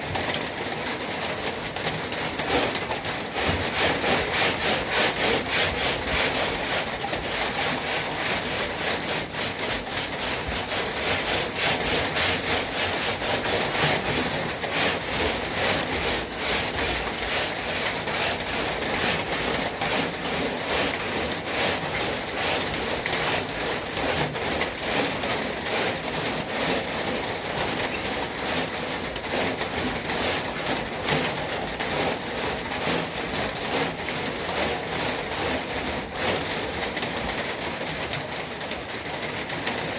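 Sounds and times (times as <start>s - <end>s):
sandpaper scratching metal: 2.3s - 36.8s.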